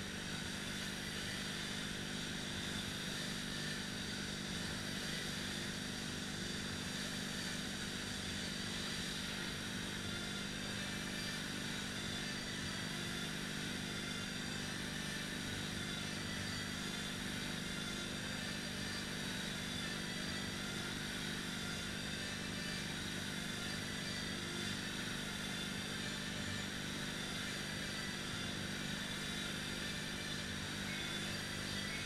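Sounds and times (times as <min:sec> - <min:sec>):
rowing machine fans whirring: 0:00.0 - 0:32.0.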